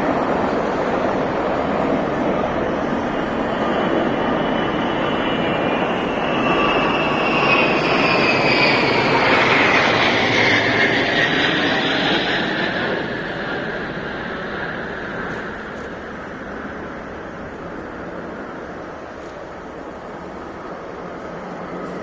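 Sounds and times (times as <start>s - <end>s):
high engine whine: 0.0s - 22.0s
military aircraft flying over: 0.0s - 22.0s.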